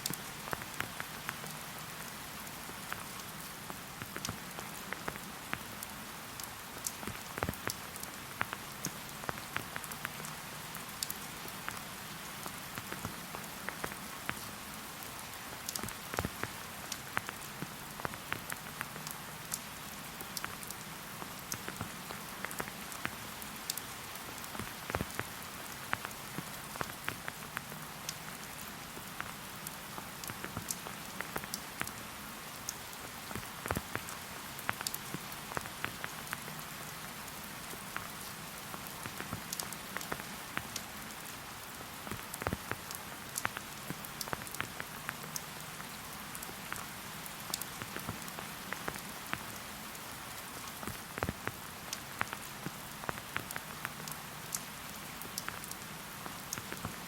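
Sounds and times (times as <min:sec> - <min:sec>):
raindrops tapping: 0:00.0 - 0:05.7, 0:06.4 - 0:14.5, 0:15.5 - 0:32.0, 0:32.7 - 0:41.0, 0:41.9 - 0:49.6, 0:50.6 - 0:57.0
steady rain falling: 0:00.0 - 0:57.0.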